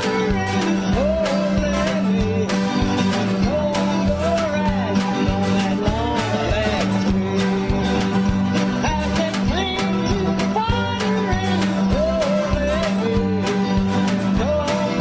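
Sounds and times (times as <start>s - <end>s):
band playing country song: 0.0s - 15.0s
sliding lead melody: 0.0s - 15.0s.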